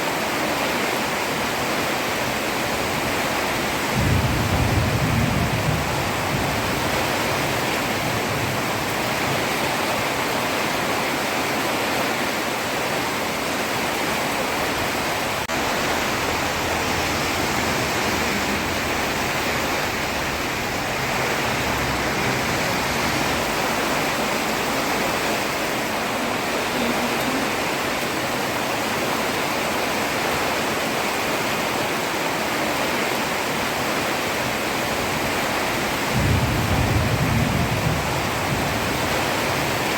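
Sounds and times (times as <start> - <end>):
heavy rain on road: 0.0 - 39.9.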